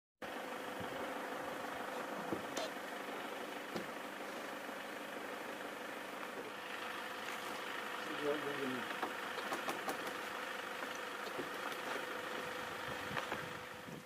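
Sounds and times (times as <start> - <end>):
engine-like hum: 0.2 - 14.0.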